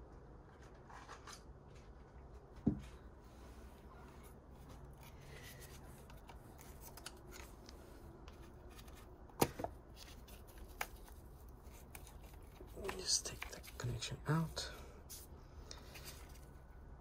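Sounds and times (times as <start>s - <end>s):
faint handling noises: 0.4s - 16.8s.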